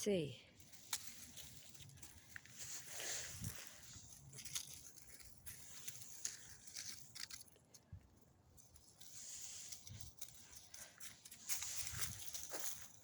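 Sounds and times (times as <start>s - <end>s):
footsteps rustling on trail: 0.6s - 13.0s.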